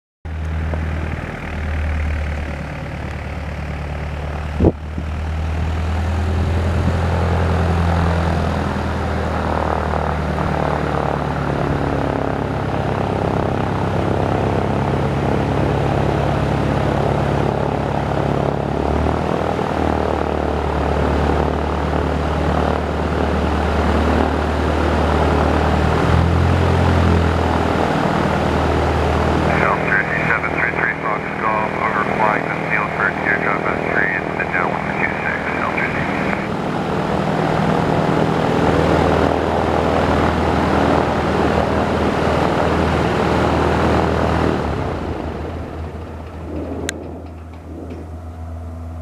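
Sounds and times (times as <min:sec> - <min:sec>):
propeller airplane engines droning: 0:00.3 - 0:49.0.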